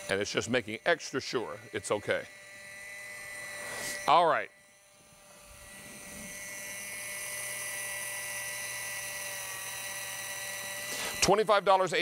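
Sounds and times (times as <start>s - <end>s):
electric can opener whining: 0.0s - 12.0s.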